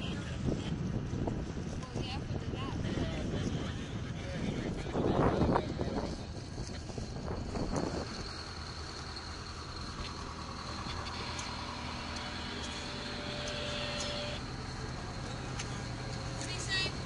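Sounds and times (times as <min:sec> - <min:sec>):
boat engine drone: 0:00.0 - 0:17.0
thin steady whine: 0:02.6 - 0:17.0.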